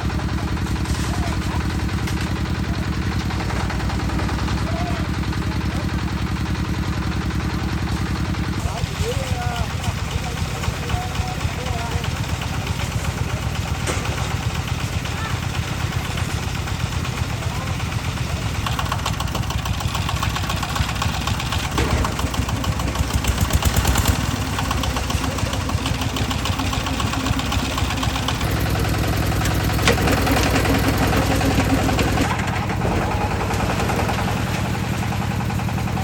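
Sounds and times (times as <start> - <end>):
concrete mixer engine running: 0.0 - 36.0.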